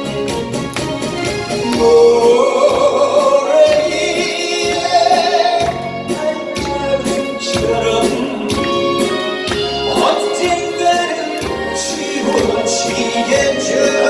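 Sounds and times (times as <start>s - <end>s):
instrumental backing: 0.0s - 14.0s
person singing: 1.6s - 14.0s.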